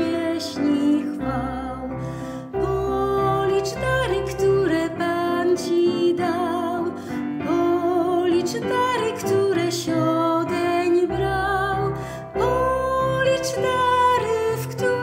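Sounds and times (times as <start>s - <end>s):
woman singing a hymn: 0.0s - 15.0s.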